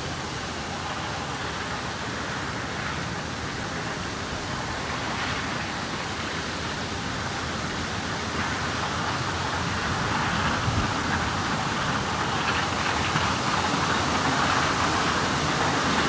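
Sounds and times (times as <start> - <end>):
steam locomotives approaching: 0.0 - 16.0.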